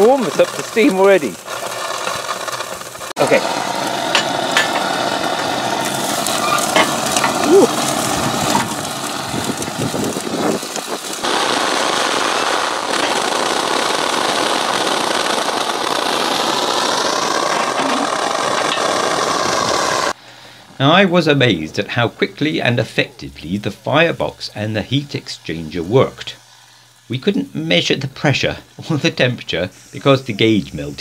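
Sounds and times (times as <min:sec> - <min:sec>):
wet steam spitting and hissing: 0:00.0 - 0:31.0.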